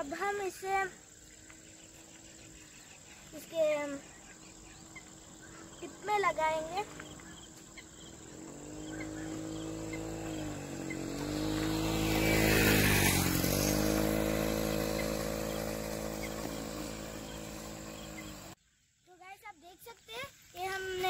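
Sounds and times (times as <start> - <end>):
vehicle engine passing: 1.1 - 18.6.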